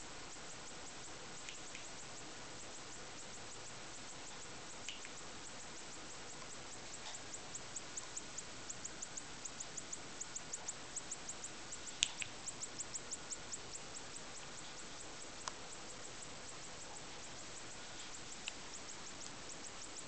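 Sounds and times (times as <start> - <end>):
strobe flash tubes ticking: 0.0 - 20.0.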